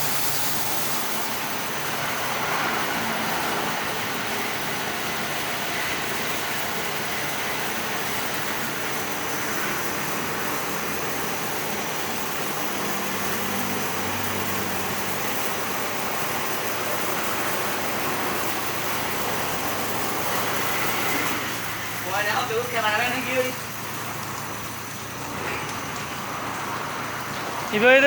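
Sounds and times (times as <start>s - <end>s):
motor running with hiss: 0.0s - 27.7s.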